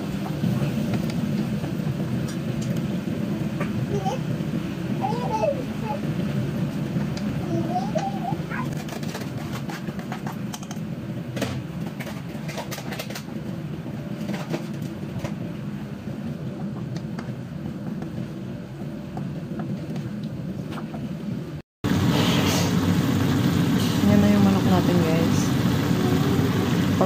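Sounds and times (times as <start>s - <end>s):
low kitchen hum: 0.0s - 27.0s.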